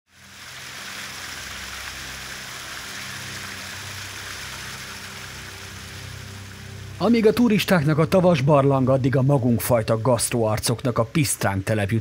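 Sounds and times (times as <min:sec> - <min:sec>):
flowing water rushing: 0:00.1 - 0:12.0.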